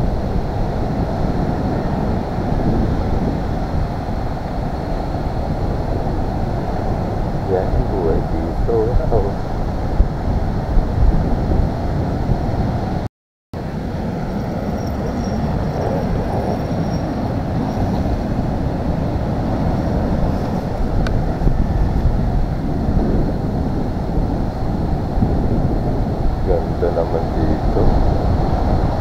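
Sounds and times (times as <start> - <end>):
wind buffeting microphone: 0.0 - 13.0, 13.6 - 29.0.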